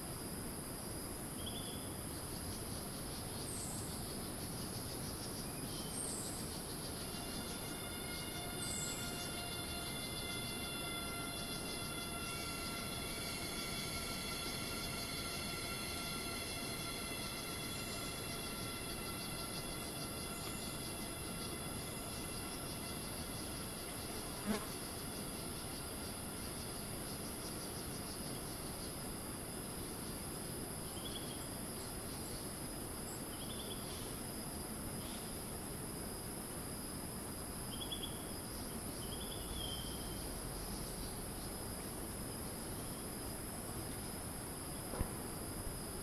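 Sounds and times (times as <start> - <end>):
cicadas buzzing: 0.0 - 46.0.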